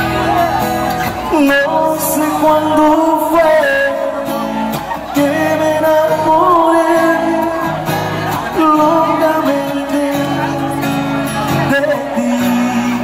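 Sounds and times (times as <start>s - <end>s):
acoustic guitar: 0.0s - 13.0s
man singing a ballad: 1.2s - 13.0s.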